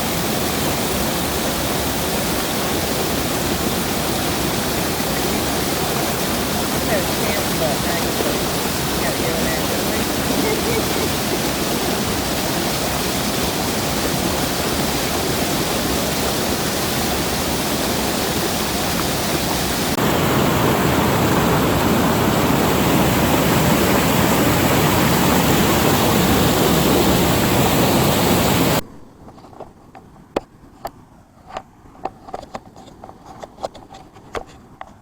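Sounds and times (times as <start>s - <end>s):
waterfall rushing: 0.0s - 28.8s.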